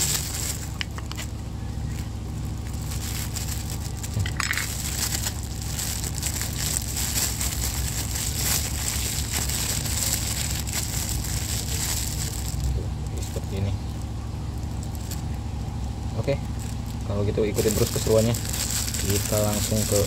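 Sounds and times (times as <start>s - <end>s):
plastic bag crinkling: 0.0s - 15.4s, 16.4s - 20.0s.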